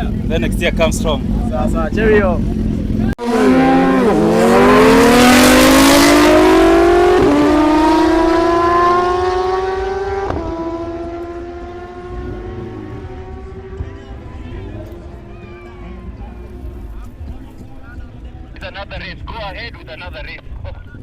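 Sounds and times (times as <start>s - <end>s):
motorcycle engine accelerating hard: 0.0s - 18.1s.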